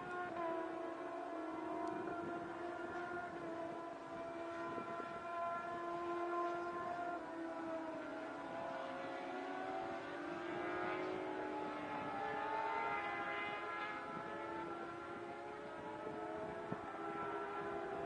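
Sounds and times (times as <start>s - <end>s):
distant car engines: 0.0s - 18.0s.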